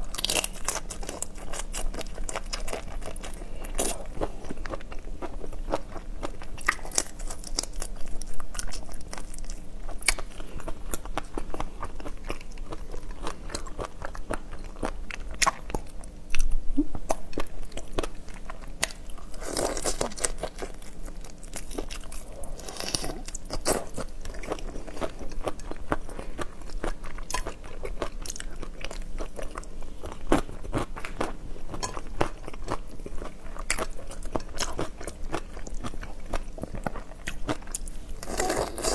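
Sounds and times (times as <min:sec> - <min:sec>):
chewing crunchy prawn shells: 0:00.0 - 0:16.5, 0:17.1 - 0:38.9.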